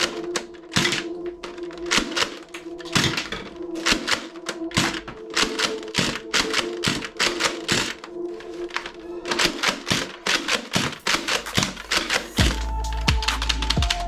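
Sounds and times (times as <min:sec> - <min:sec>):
background music with held tones: 0:00.0 - 0:14.0.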